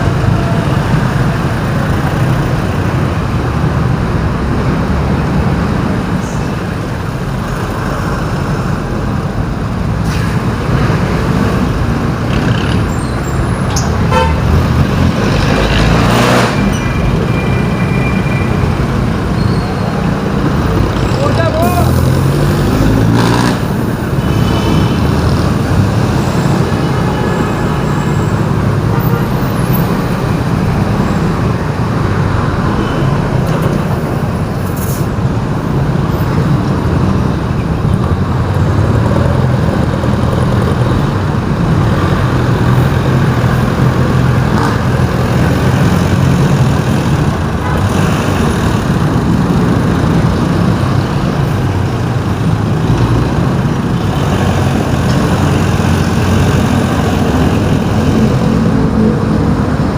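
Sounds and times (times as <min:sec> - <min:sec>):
city traffic and engine rumble: 0:00.0 - 0:59.9.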